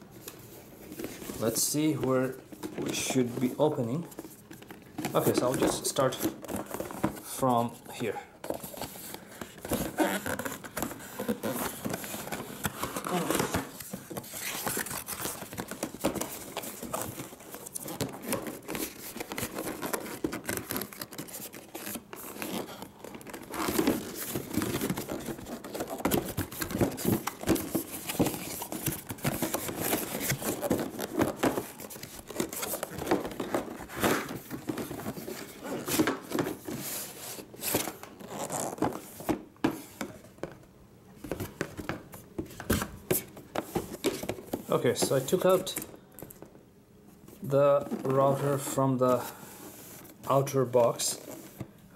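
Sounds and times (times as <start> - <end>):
cardboard rustling and scraping: 0.1 - 40.6, 41.2 - 46.5, 47.2 - 51.8.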